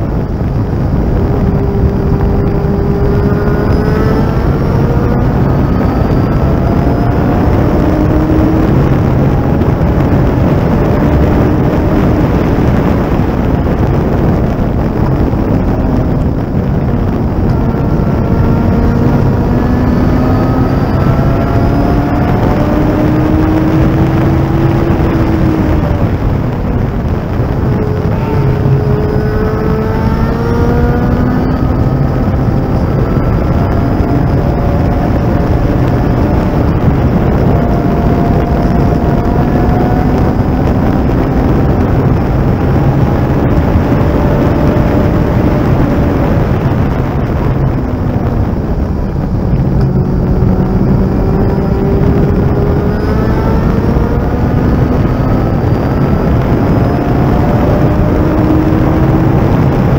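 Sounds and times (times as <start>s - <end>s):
race car engine at speed: 0.0s - 59.9s
wind and road noise: 0.0s - 59.9s.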